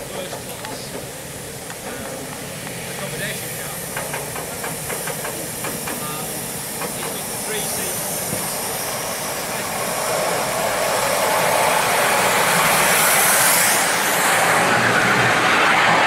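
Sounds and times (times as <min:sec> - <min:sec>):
model steam engine hissing: 0:00.0 - 0:16.0.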